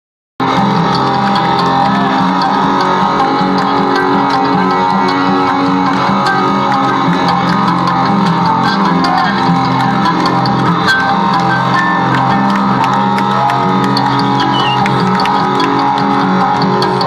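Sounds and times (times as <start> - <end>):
amplified cellos bowing: 0.4 - 17.0.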